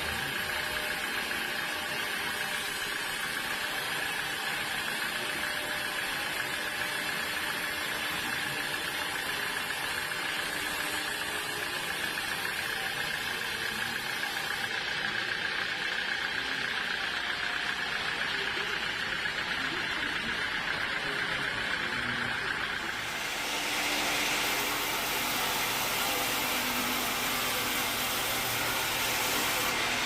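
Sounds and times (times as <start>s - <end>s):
sawmill saw whining: 0.0s - 30.0s.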